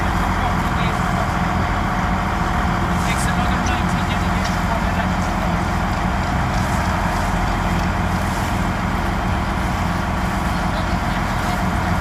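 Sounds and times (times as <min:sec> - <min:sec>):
boat engine rumble: 0:00.0 - 0:12.0
water rushing: 0:00.0 - 0:12.0
wind: 0:00.0 - 0:12.0.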